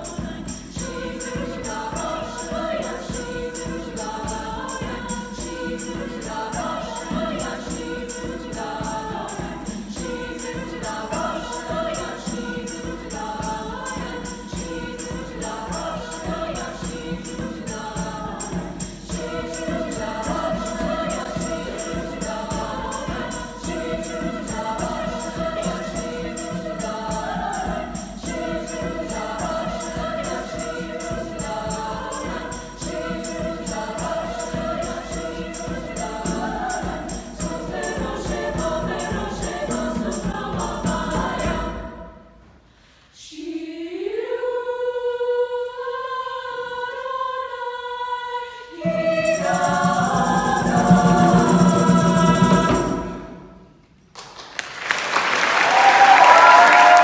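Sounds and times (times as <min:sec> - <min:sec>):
women's choir singing: 0:00.0 - 0:42.5, 0:43.2 - 0:53.7, 0:55.5 - 0:57.0.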